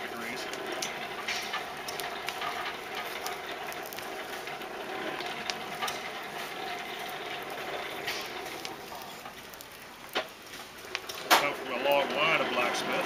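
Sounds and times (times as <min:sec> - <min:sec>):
hand-cranked blower whirring: 0:00.0 - 0:09.4, 0:10.8 - 0:13.0
fire crackling: 0:00.0 - 0:13.0.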